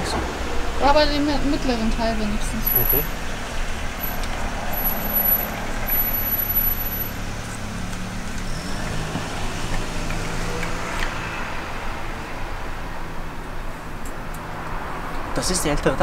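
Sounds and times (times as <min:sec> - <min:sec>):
car engine humming: 0:00.0 - 0:15.2
traffic noise: 0:00.0 - 0:16.0.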